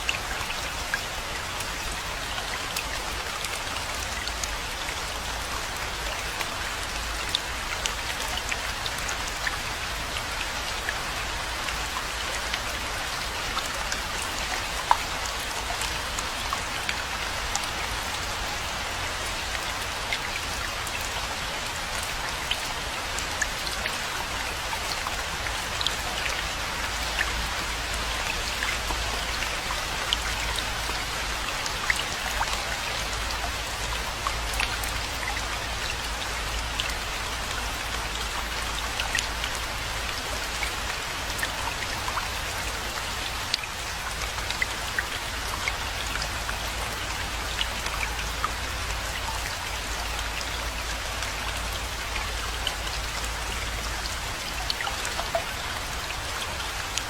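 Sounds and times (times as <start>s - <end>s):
rain drops clicking on surfaces: 0.0s - 57.0s.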